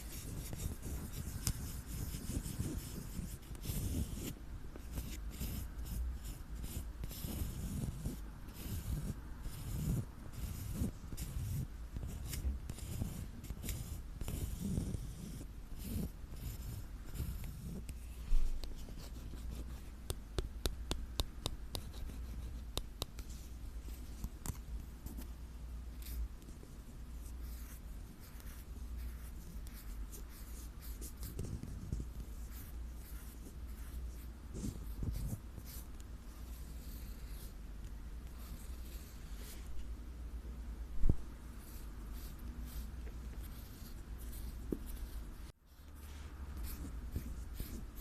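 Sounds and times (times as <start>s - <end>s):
soft scratching and rubbing: 0.0s - 20.8s, 21.7s - 37.6s, 41.1s - 48.0s.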